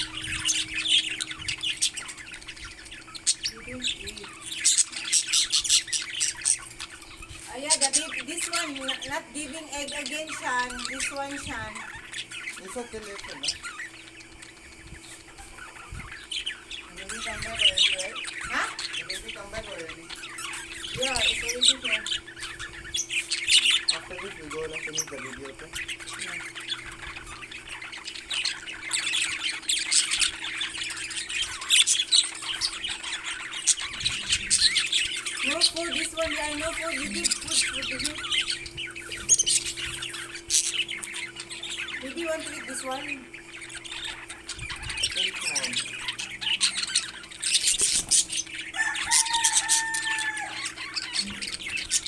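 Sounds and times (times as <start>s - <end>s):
faint steady hum: 0.0s - 52.0s
parrots squawking and chirping: 0.0s - 52.0s.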